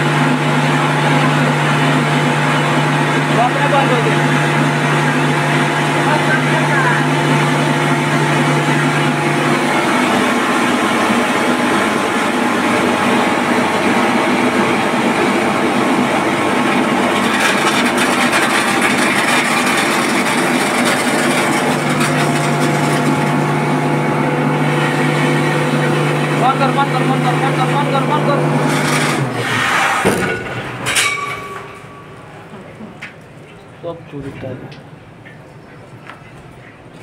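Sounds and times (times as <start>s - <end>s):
fire pump machine hum: 0.0s - 37.0s.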